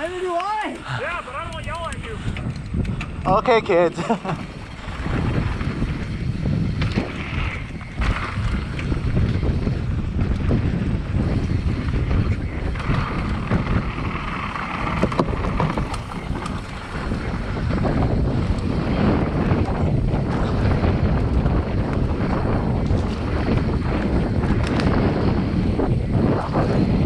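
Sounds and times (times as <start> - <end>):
bike knocking and rattling: 0.0 - 27.0
wind buffeting microphone: 0.0 - 27.0
tyres rolling on dirt: 3.8 - 25.6.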